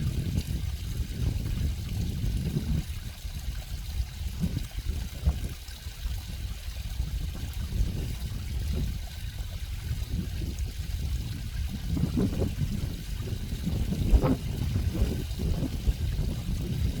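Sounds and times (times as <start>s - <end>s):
stream flowing and trickling: 0.0s - 17.0s.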